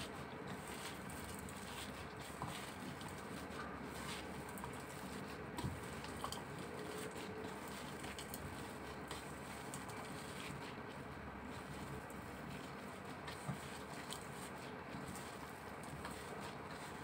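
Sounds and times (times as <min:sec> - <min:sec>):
wet meat squishing: 0:00.0 - 0:17.0.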